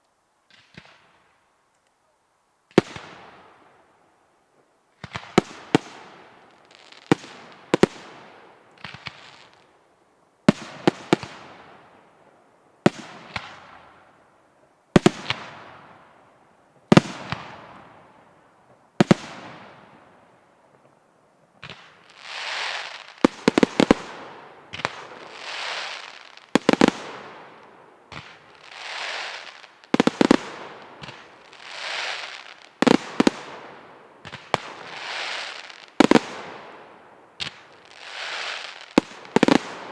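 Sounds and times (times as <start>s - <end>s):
crackling hiss of fireworks: 0.0s - 39.9s
rushing hiss of rising fireworks: 0.0s - 39.9s.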